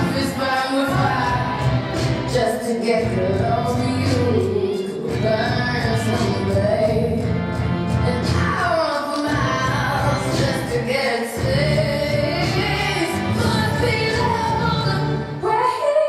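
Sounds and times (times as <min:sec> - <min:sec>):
woman singing: 0:00.0 - 0:07.3, 0:07.9 - 0:16.0
instrumental backing: 0:00.0 - 0:15.6.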